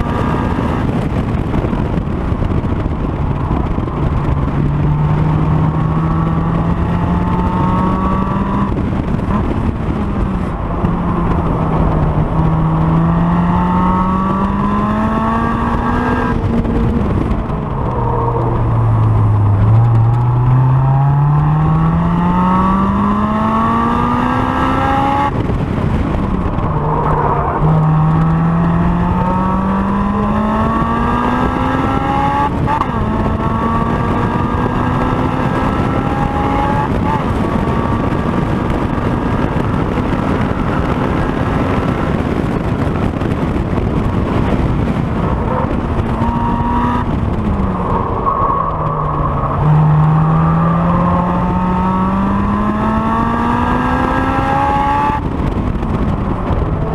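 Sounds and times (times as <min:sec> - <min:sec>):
car engine revving at full throttle: 0:00.0 - 0:56.9.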